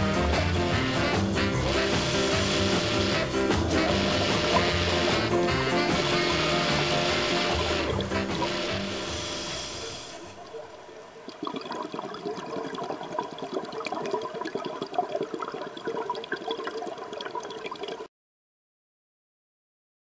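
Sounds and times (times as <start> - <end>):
underwater bubbles gurgling: 1.6 - 18.1.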